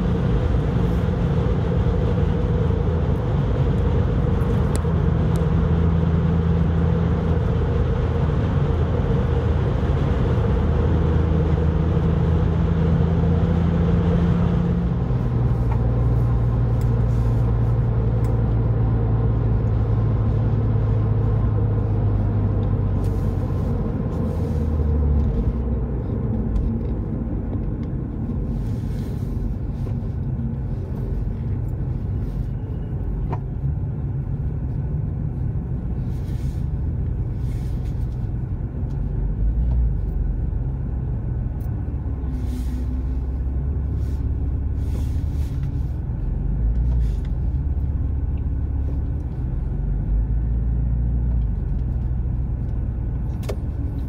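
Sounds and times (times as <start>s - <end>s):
car engine from inside: 0.0s - 54.0s.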